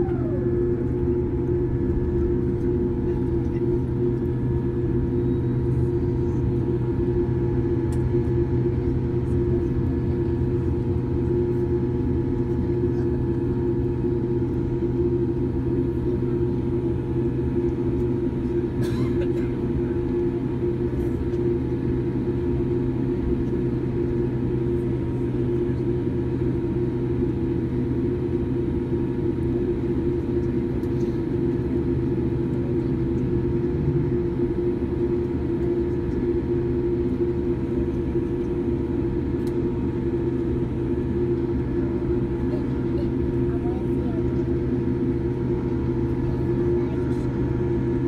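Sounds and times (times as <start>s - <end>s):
aircraft cabin rumble and hum: 0.0s - 48.0s.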